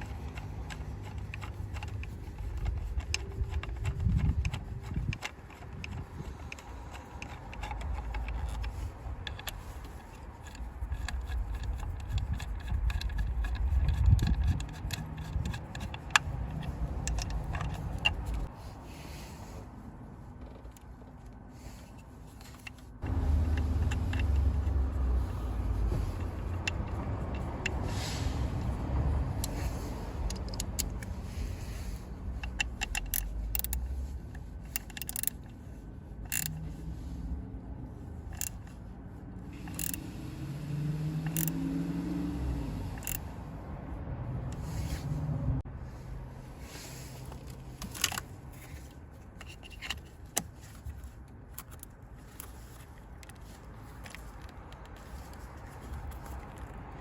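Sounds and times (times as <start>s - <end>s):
tools clicking and scraping: 0.0s - 18.7s, 20.3s - 43.4s, 46.6s - 57.0s.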